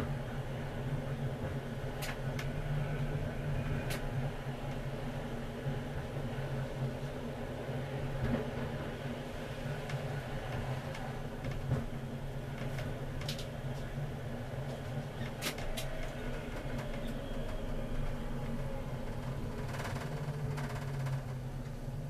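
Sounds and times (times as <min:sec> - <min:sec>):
tram running low hum: 0:00.0 - 0:22.0.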